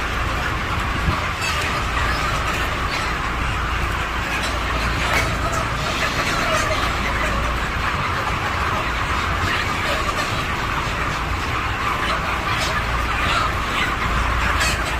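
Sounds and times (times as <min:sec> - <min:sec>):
chickens clucking and peeping: 0:00.0 - 0:14.9.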